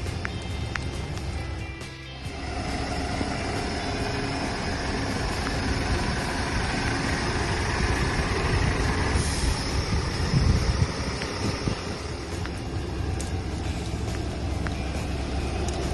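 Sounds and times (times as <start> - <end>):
diesel truck engine rumbling: 0.0 - 15.9.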